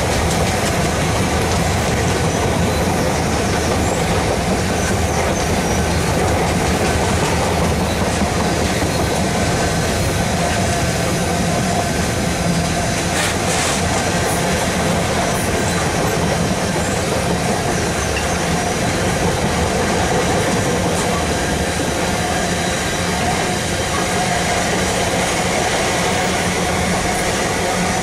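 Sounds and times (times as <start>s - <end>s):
train wheels running on rail: 0.0s - 28.0s.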